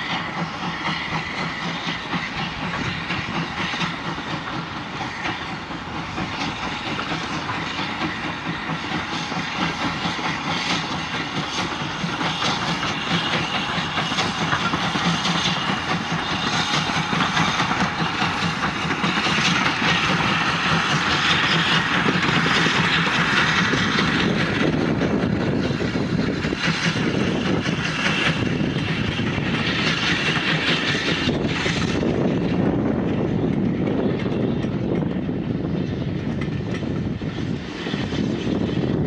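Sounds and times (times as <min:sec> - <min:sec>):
steam locomotive passing: 0:00.0 - 0:39.0.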